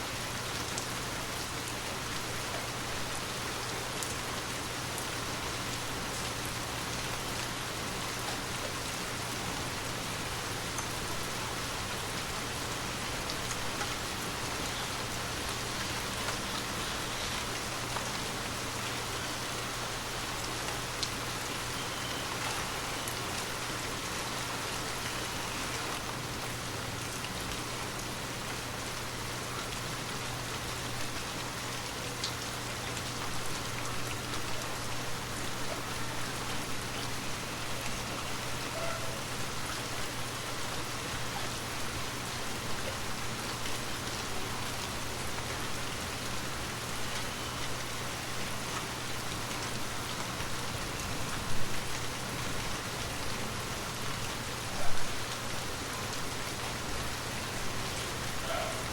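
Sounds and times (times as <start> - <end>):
gentle rain falling: 0.0 - 58.9.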